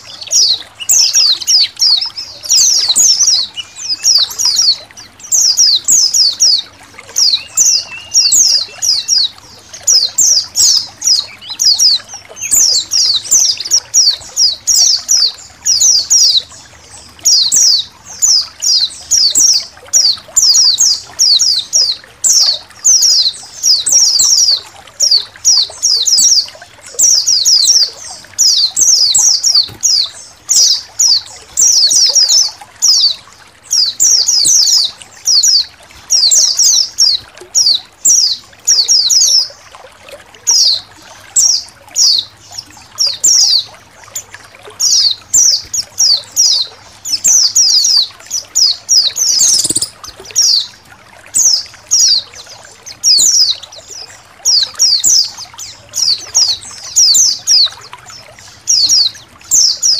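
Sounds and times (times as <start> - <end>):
birds chirping: 0.0 - 59.9
trickling water: 0.0 - 59.9.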